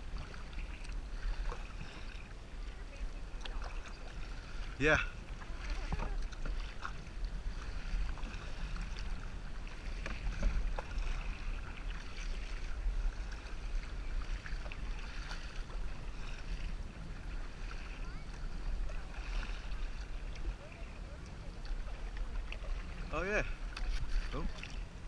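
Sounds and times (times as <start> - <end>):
ocean water washing and splashing: 0.0 - 25.0
wind rumbling on microphone: 0.0 - 25.0
small splashes and ticks: 0.1 - 4.7, 5.3 - 24.9.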